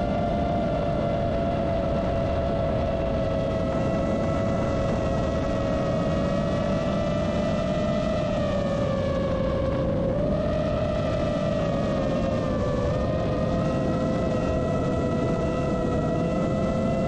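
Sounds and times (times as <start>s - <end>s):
rushing wind noise: 0.0s - 17.0s.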